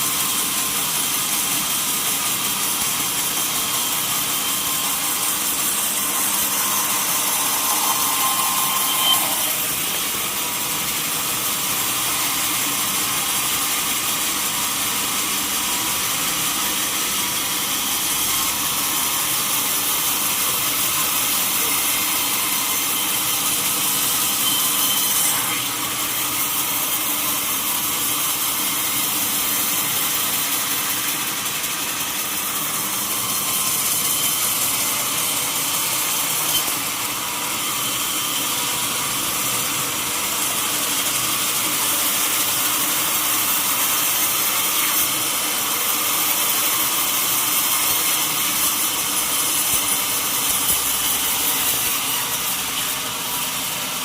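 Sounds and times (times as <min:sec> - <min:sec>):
sawmill saw cutting log: 0:00.0 - 0:54.0.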